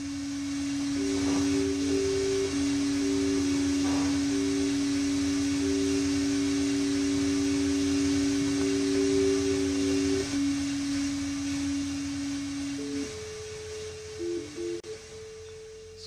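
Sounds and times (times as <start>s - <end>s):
even hiss: 0.0s - 16.0s
hum of two held tones: 0.0s - 16.0s.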